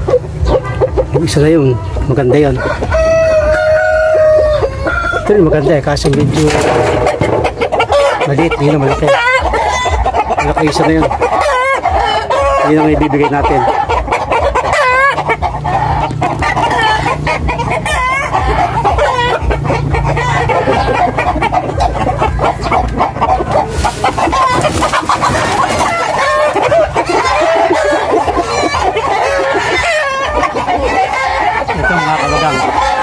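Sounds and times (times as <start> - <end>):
chickens clucking: 0.0 - 33.0
rooster crowing: 1.8 - 5.6, 7.1 - 10.1, 11.4 - 33.0.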